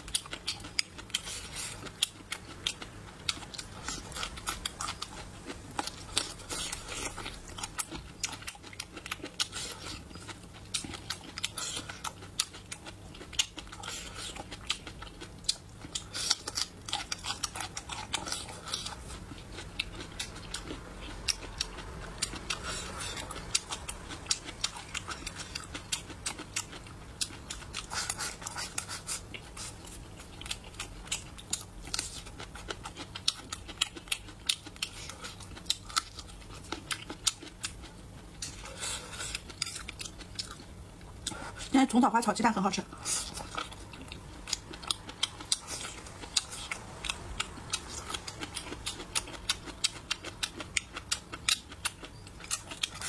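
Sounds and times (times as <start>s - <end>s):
person chewing and lip smacking: 0.0s - 41.7s, 42.9s - 53.0s.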